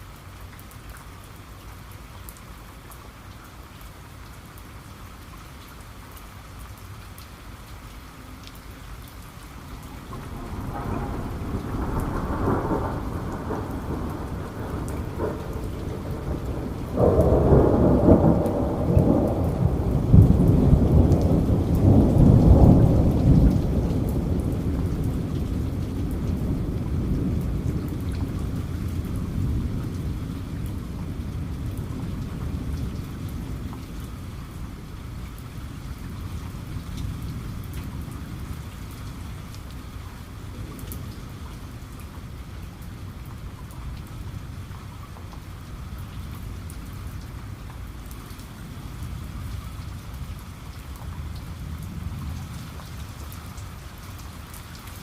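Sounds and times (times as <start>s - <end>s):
heavy rain with drops pattering: 0.0s - 55.0s
low thunder rumble: 9.5s - 53.8s.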